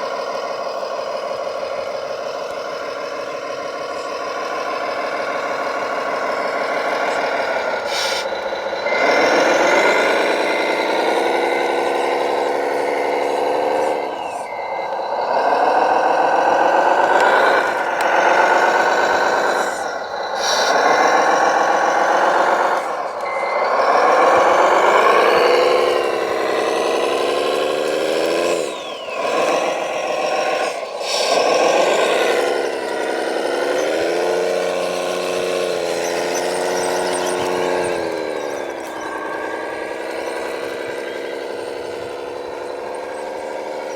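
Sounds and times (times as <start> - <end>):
electric motors whining: 0.0 - 43.9.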